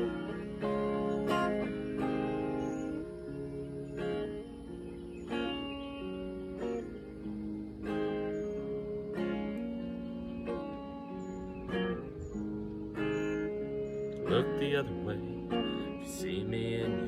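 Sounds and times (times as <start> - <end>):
electric guitar strummed: 0.0 - 17.0.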